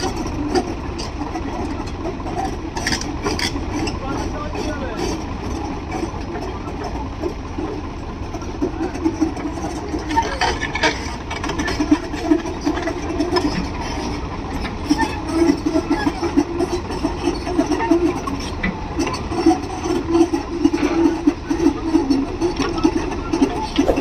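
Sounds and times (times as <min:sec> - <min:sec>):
diesel excavator engines rumbling: 0:00.0 - 0:24.0
excavator tracks crawling: 0:00.0 - 0:24.0.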